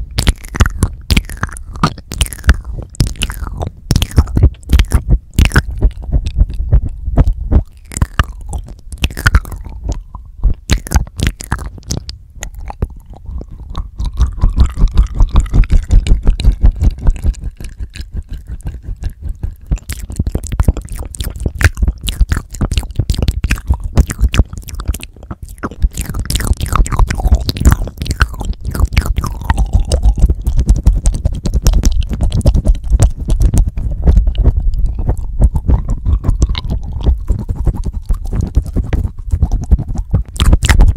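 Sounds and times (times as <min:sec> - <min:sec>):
tongue clicks: 0:00.0 - 0:40.9
wet mouth sounds: 0:00.0 - 0:40.9
lip smacks: 0:00.1 - 0:40.9.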